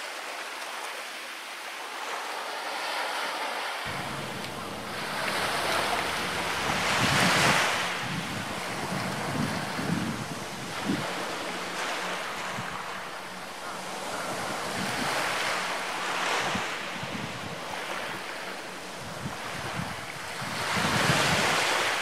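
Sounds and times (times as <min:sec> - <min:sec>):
sea waves breaking on shore: 0:00.0 - 0:22.0
wind buffeting microphone: 0:03.9 - 0:22.0.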